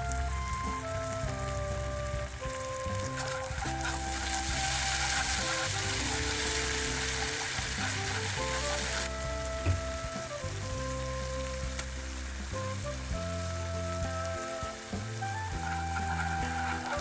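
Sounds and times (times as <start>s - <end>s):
background music: 0.0s - 17.0s
food sizzling in hot oil: 0.1s - 17.0s.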